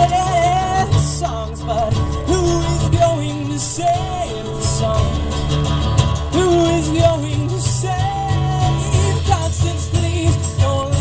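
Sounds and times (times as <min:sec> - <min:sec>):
live rock band music: 0:00.0 - 0:11.0.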